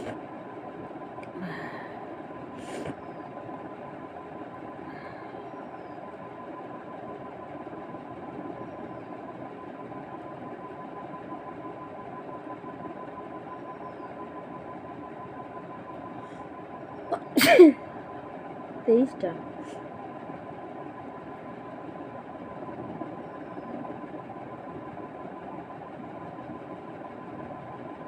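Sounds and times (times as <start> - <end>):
steady mechanical hum: 0.0 - 28.0
thin high whine: 0.0 - 28.0.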